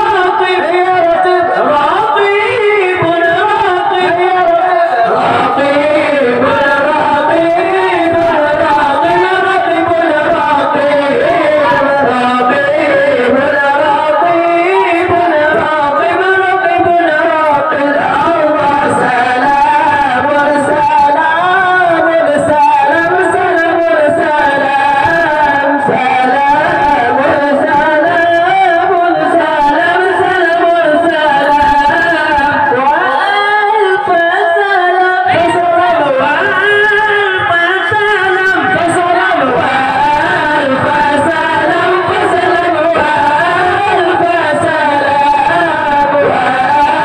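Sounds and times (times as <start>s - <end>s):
lead singer on microphone: 0.0s - 47.0s
men chanting in unison: 0.0s - 47.0s.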